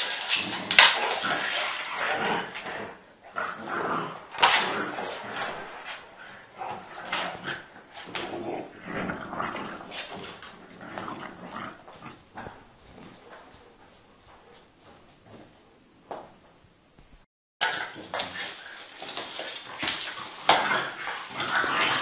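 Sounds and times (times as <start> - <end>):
dogs wrestling and growling: 0.0 - 16.6, 17.6 - 22.0.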